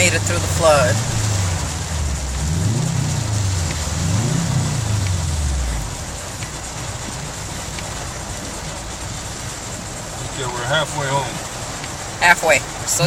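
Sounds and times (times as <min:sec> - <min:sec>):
car engine revving: 0:00.0 - 0:13.0
rain hiss: 0:00.0 - 0:13.0.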